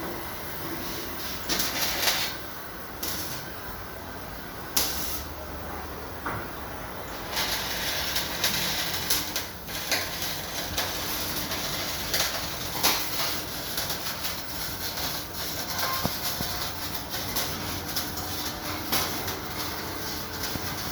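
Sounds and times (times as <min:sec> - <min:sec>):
arc welding crackle and pops: 0:00.8 - 0:05.4, 0:06.4 - 0:20.9.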